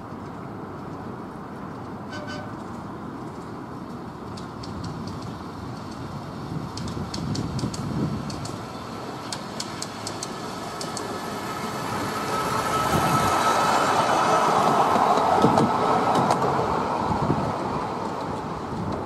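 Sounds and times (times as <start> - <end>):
miniature train rolling on rails: 0.0 - 19.0.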